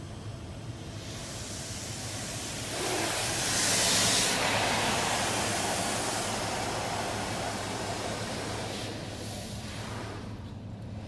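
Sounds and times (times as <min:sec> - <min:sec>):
high-pressure water spraying on car: 0:00.8 - 0:10.7.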